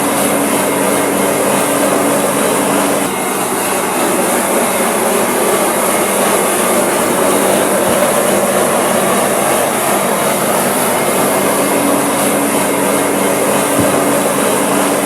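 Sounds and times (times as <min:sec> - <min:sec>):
loud machinery noise: 0:00.0 - 0:15.0.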